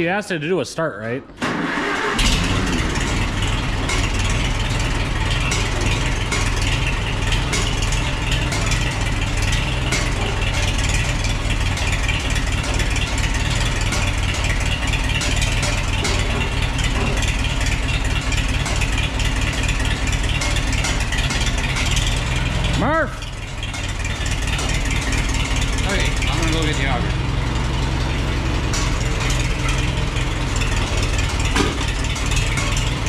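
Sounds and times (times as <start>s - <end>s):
tractor engine idling: 1.2s - 33.0s.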